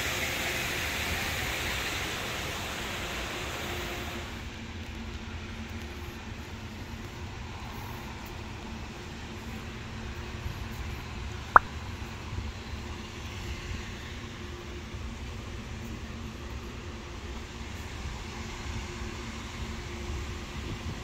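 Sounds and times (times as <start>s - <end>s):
road traffic rumble: 0.8s - 19.1s.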